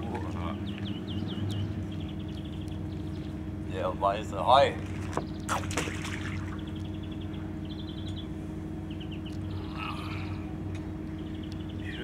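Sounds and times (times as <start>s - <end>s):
steady low hum: 0.0s - 12.0s
small bird chirping trills: 0.4s - 12.0s.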